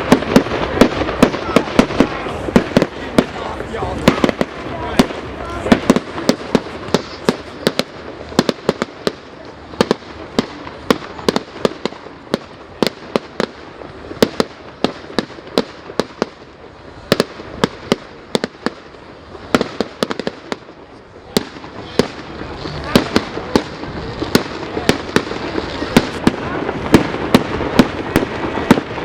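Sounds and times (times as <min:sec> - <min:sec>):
background hiss: 0:00.0 - 0:29.0
fireworks bangs and cracks: 0:00.0 - 0:29.0.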